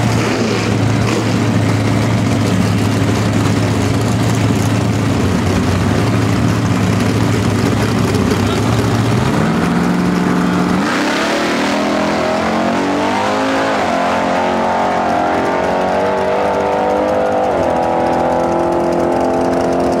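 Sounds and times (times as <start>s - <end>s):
drag-race engine revving: 0.0s - 20.0s.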